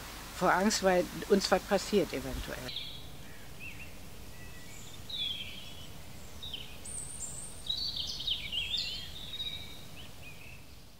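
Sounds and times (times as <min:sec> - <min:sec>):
birds chirping: 0:00.4 - 0:10.9.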